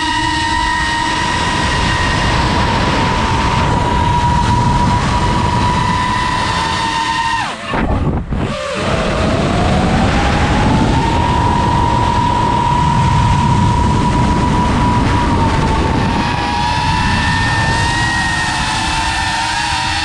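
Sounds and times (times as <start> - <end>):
drone motors whining: 0.0 - 20.0
steady rush of noise: 0.0 - 20.0.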